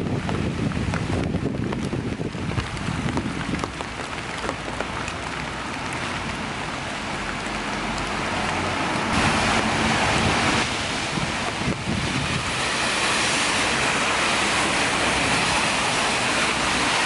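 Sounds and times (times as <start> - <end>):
car tyres hissing on wet street: 0.0 - 17.0
raindrops tapping: 0.0 - 17.0
steady rain: 0.0 - 17.0.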